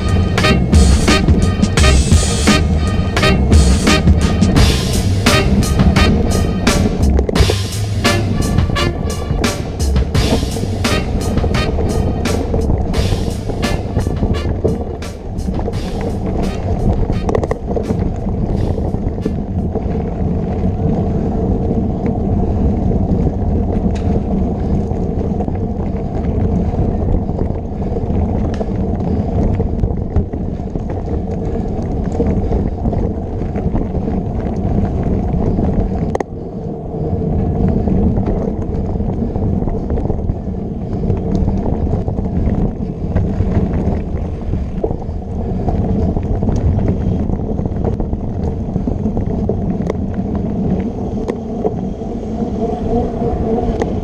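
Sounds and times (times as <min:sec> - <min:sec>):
bike clicks and rattles: 0:00.0 - 0:54.0
bike rolling over dirt: 0:00.0 - 0:54.0
wind on microphone: 0:00.0 - 0:54.0.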